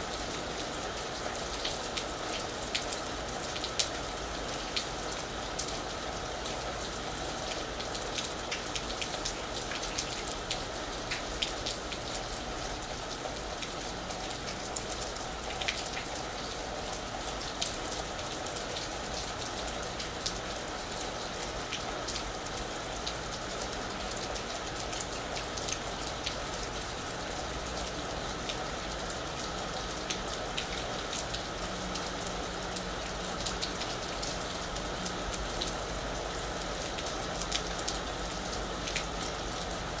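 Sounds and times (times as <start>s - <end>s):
rain falling on a roof: 0.0s - 40.0s.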